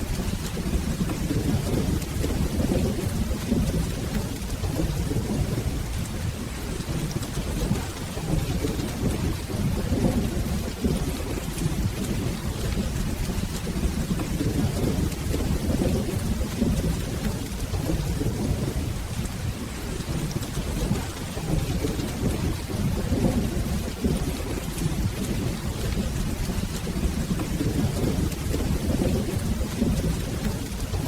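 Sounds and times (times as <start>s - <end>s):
rolling thunder rumble: 0.0s - 31.0s
steady rain: 0.0s - 31.0s.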